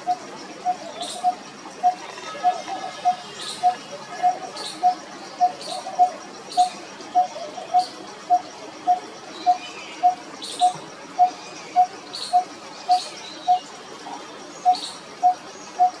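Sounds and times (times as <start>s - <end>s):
fainter higher bird calls: 0.0s - 13.7s.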